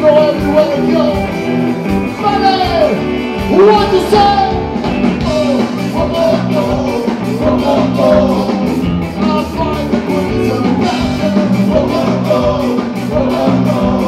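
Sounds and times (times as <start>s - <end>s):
ska band playing live: 0.0s - 14.0s.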